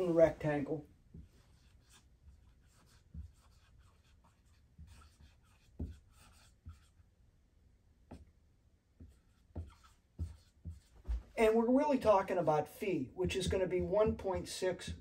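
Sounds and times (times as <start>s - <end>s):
marker writing on whiteboard: 0.0s - 7.1s, 8.1s - 15.0s.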